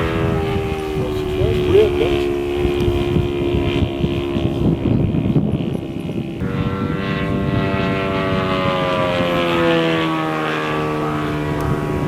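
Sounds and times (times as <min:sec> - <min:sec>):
model plane engine droning: 0:00.0 - 0:12.0
wind rumble on microphone: 0:00.0 - 0:12.0.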